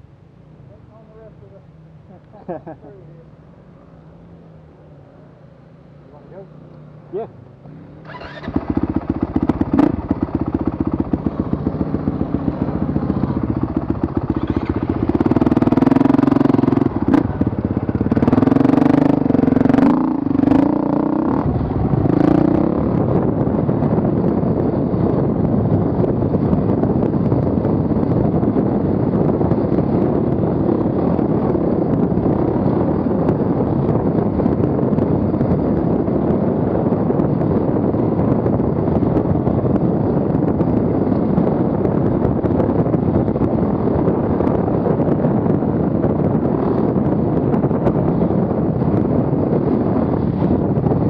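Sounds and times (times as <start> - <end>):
dirt bike engine: 5.9 - 51.0.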